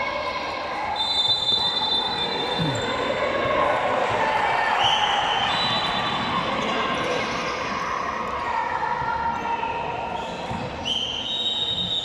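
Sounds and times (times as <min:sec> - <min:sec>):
steady din of venue: 0:00.0 - 0:12.0.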